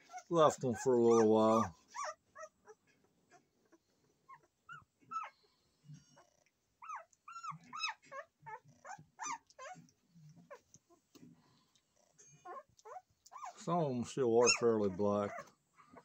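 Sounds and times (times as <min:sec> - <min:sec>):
puppies squeaking and whimpering: 0:00.0 - 0:05.4, 0:06.0 - 0:11.1, 0:12.2 - 0:13.7, 0:14.3 - 0:16.0.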